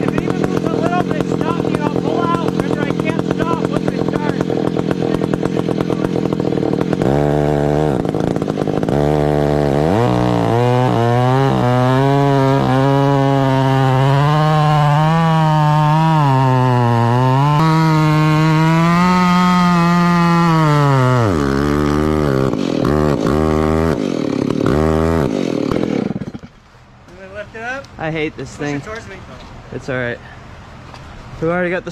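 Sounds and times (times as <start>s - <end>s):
chainsaw throttle blips: 0.0s - 26.6s
chainsaw cutting wood: 0.0s - 27.2s.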